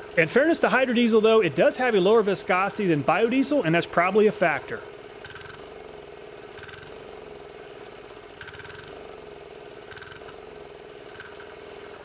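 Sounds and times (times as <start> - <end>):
small diesel engine running: 0.0 - 12.0.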